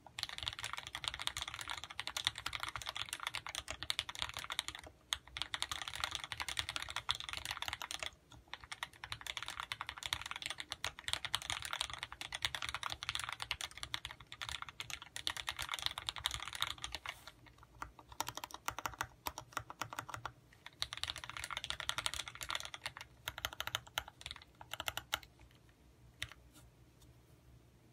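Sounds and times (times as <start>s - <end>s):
mechanical keyboard typing: 0.1s - 25.6s, 26.2s - 26.4s.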